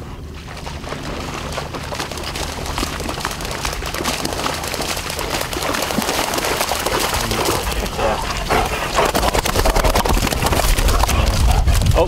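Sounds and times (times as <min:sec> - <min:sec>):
footsteps splashing through water: 0:00.0 - 0:12.0.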